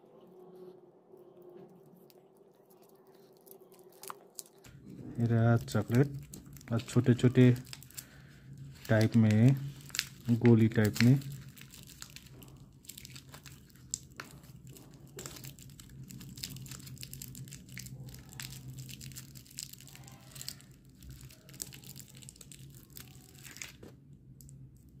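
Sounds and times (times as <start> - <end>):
low steady hum: 0.0 - 25.0
cellophane wrappers crinkling: 1.6 - 25.0.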